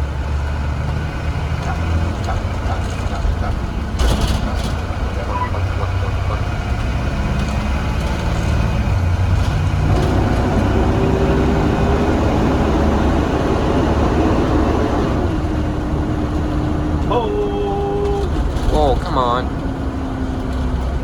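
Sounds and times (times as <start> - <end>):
bus engine rumble: 0.0 - 21.0
engine whine: 0.0 - 21.0.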